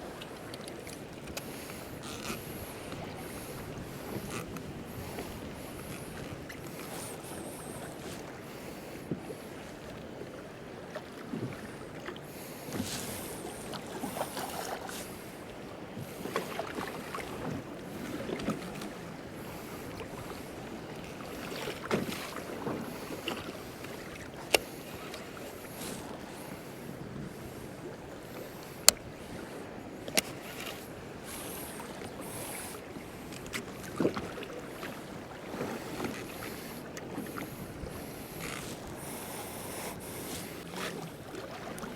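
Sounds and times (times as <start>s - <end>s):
water lapping against kayak hull: 0.0s - 41.9s.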